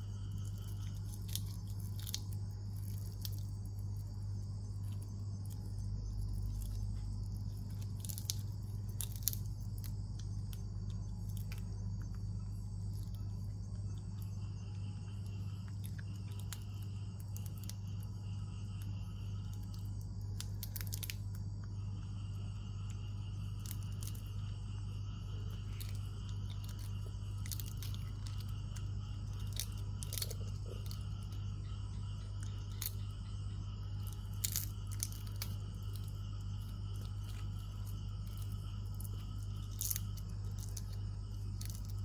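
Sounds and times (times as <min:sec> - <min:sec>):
faint high insect buzz: 0:00.0 - 0:42.0
monkey chewing crunchy insect: 0:00.0 - 0:42.0
steady low hum: 0:00.0 - 0:42.0.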